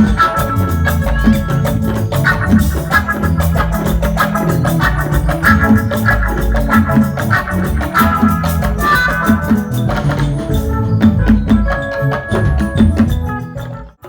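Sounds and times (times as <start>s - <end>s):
keyboard and drums music: 0.0s - 14.0s.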